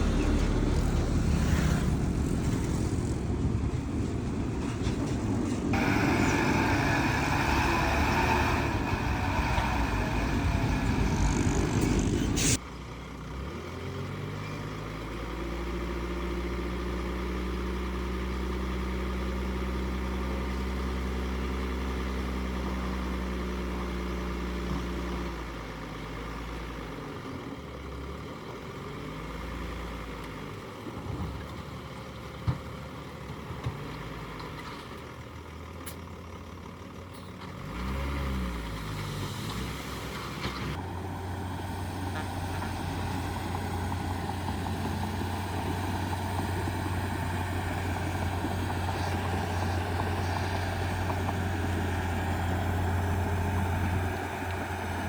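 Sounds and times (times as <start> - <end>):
diesel engine running steadily: 0.0 - 55.0
heavy diesel machinery engine: 0.0 - 55.0.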